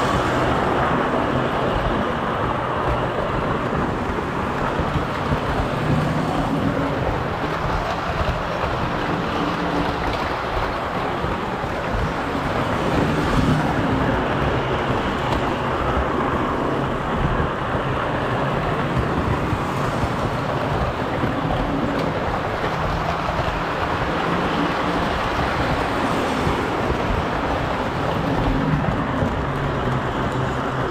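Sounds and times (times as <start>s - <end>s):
model train wheels rumbling on rails: 0.0s - 30.9s.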